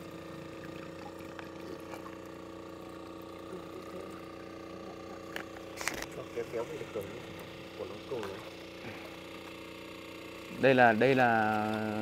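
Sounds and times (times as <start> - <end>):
winch motor humming: 0.0 - 12.0.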